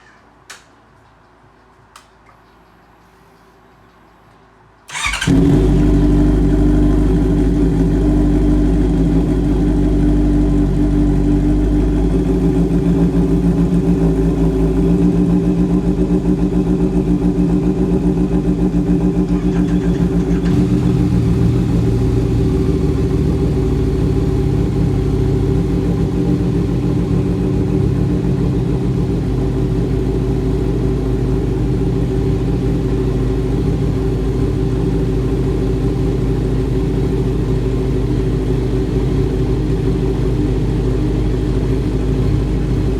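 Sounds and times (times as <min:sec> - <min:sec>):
motorcycle engine idling: 0:04.9 - 0:42.9.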